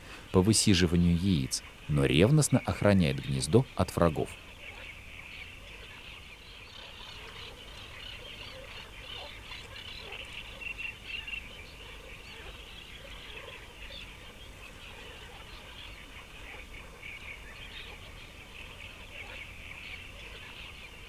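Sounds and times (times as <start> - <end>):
lower bird calls: 0.0 - 21.0
small birds chirping: 0.0 - 21.0.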